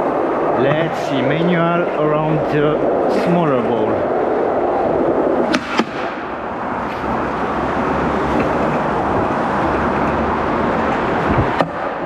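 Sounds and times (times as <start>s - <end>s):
skateboard wheels rolling: 0.0s - 12.0s.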